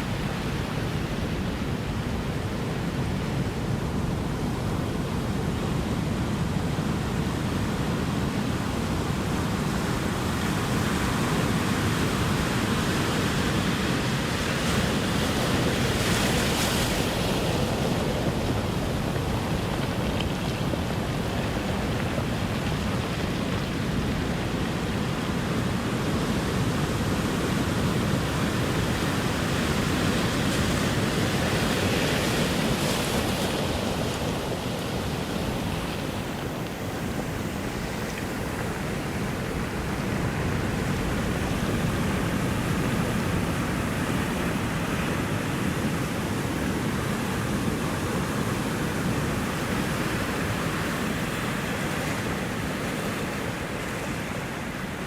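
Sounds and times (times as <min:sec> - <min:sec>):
ocean waves breaking: 0:06.6 - 0:55.0.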